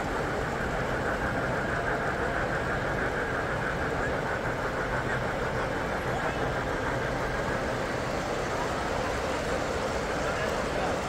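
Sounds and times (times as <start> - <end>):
model trains running: 0.0 - 11.0.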